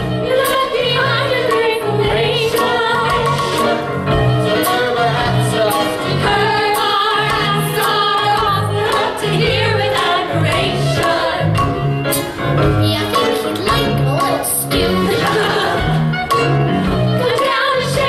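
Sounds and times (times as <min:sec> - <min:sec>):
bass notes: 0:00.0 - 0:18.0
percussion hits: 0:00.0 - 0:18.0
voices singing show tune: 0:00.2 - 0:11.7, 0:12.8 - 0:16.2, 0:17.1 - 0:18.0.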